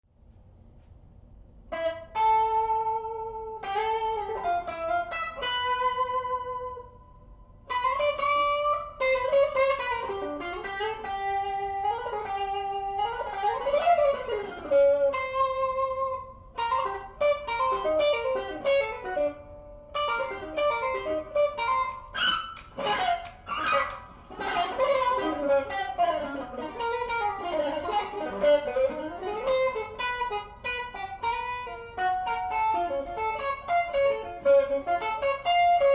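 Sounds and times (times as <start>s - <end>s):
electric guitar playing: 1.7s - 35.9s.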